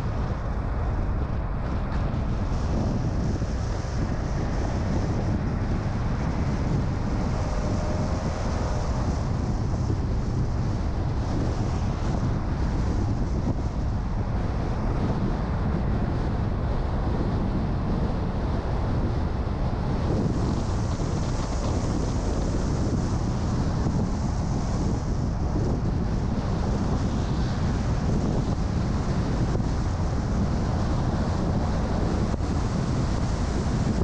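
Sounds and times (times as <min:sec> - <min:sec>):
car engine and road noise: 0:00.0 - 0:34.0
wind noise: 0:00.0 - 0:34.0.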